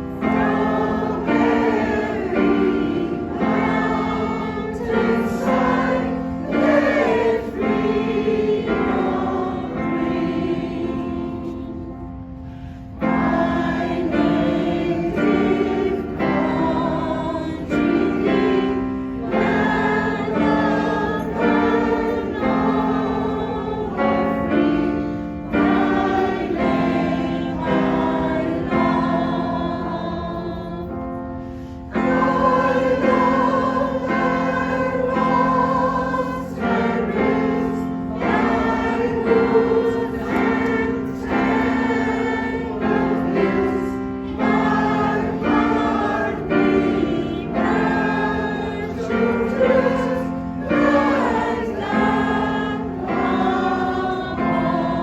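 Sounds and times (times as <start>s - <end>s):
choir singing a hymn-like song: 0.0s - 55.0s.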